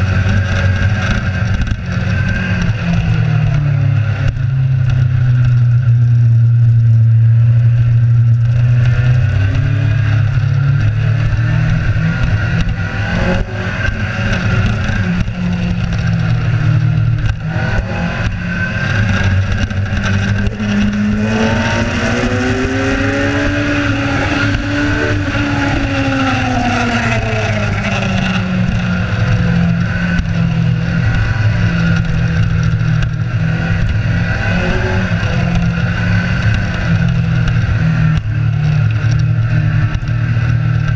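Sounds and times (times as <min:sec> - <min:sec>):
motorcycle engine running: 0:00.0 - 0:40.9
wind noise: 0:00.0 - 0:40.9.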